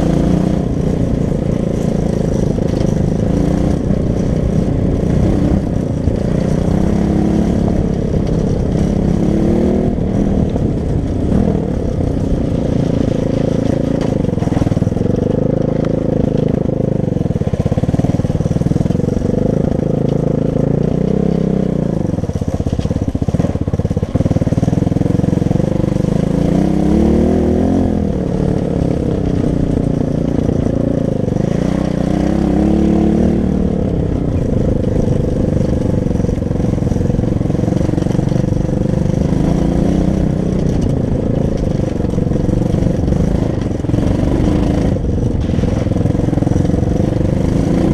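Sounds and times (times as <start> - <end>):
motorbike engine revving: 0.0 - 47.9.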